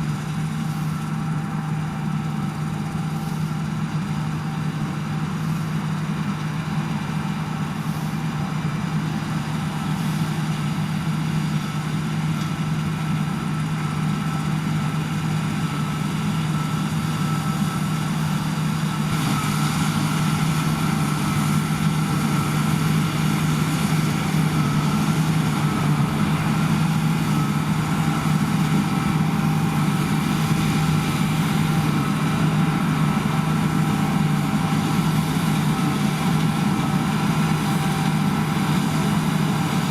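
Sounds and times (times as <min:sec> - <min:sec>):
diesel farm machinery droning: 0:00.0 - 0:39.9
high-pitched machine whine: 0:00.0 - 0:39.9.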